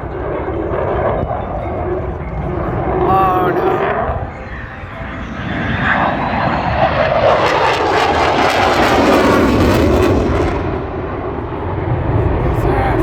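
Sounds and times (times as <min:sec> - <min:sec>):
fighter jet flyby roar: 0:00.0 - 0:13.0.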